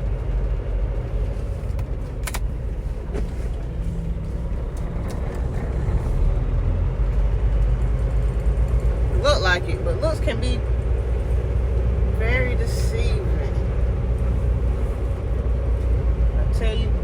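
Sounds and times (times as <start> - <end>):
truck diesel engine droning: 0.0 - 17.0.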